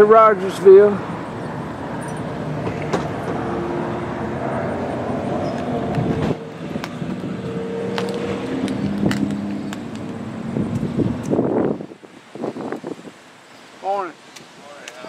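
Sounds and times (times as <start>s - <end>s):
car engines passing: 0.0s - 13.9s.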